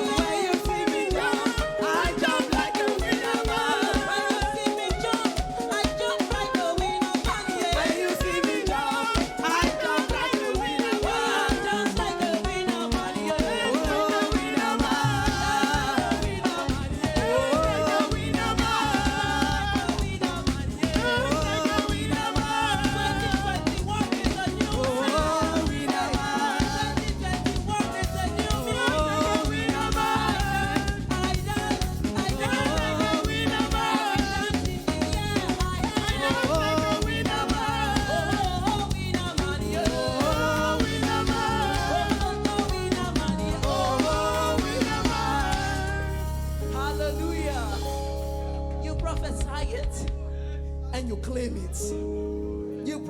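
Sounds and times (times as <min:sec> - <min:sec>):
people singing: 0:00.0 - 0:48.6
band with drum kit: 0:00.0 - 0:53.0.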